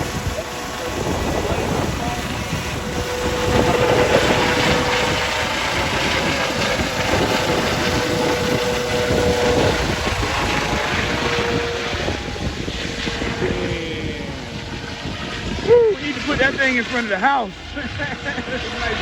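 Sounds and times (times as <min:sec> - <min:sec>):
helicopter rotor and engine: 0:00.0 - 0:19.0
wind blowing on microphone: 0:00.0 - 0:19.0.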